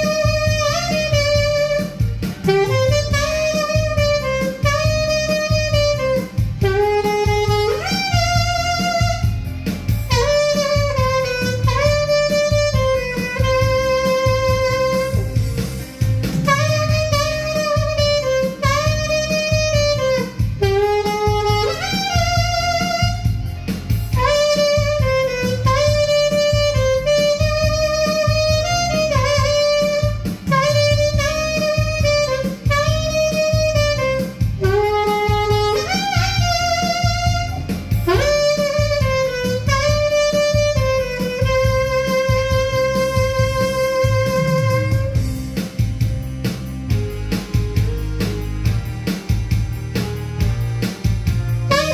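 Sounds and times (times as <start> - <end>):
backing track with low beat: 0.0 - 51.9
saxophone melody: 0.0 - 51.9.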